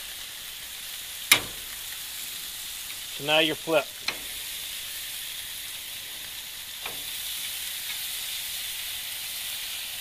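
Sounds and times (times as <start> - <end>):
chicken sizzling on grill: 0.0 - 10.0.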